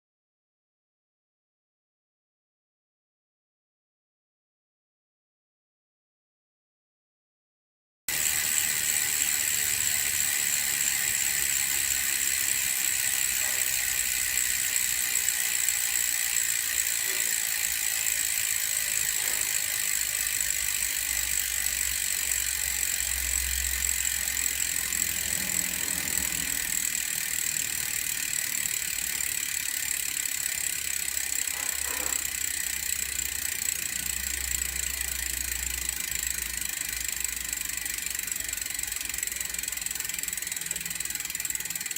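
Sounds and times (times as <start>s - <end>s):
bicycle freehub ratcheting: 8.1s - 41.9s.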